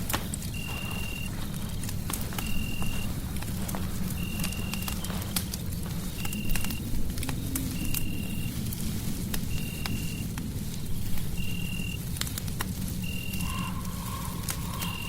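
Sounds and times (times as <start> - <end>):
fireplace crackling and popping: 0.0 - 15.0
steady low rumble: 0.0 - 15.0.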